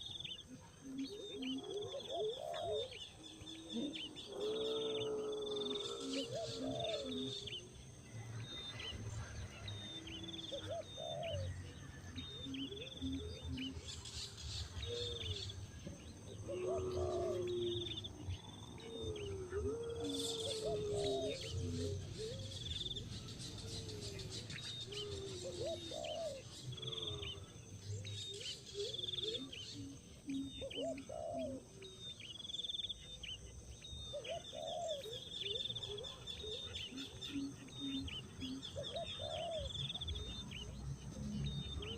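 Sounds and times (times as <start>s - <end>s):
bird low rising and falling call: 0.0s - 7.8s, 9.8s - 15.6s, 16.4s - 41.9s.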